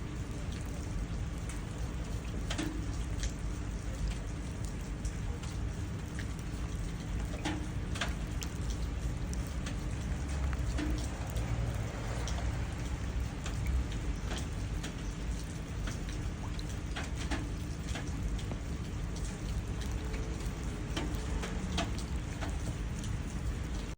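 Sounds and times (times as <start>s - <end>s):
rain falling steadily: 0.0s - 23.9s
raindrops ticking in puddles: 0.0s - 23.9s.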